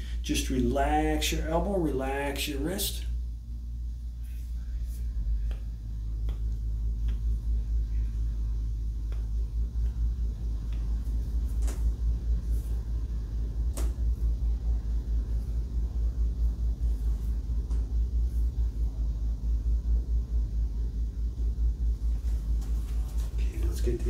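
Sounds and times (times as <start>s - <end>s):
low uneven rumble: 0.0s - 24.0s.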